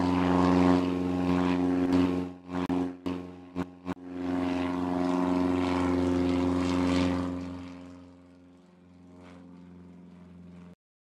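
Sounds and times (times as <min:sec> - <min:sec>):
propeller aircraft engine drone: 0:00.0 - 0:10.8.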